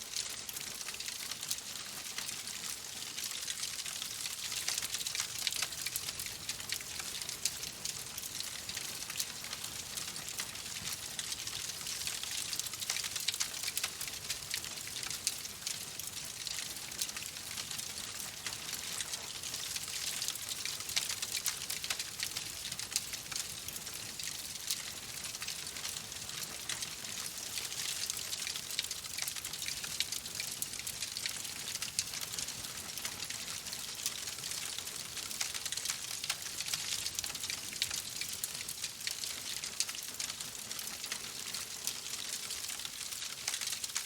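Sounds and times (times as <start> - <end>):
wood fire crackling: 0.1 - 44.0.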